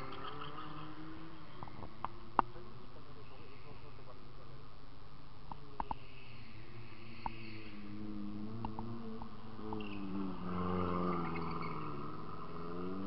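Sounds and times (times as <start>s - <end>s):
rally car engine passing: 0.0s - 4.7s, 6.4s - 13.0s.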